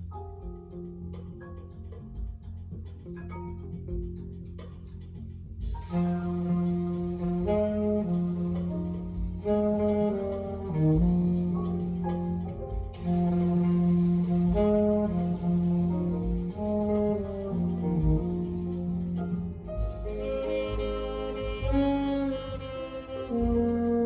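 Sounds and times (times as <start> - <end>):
jazz saxophone: 0.0 - 24.0
low bass: 0.0 - 24.0.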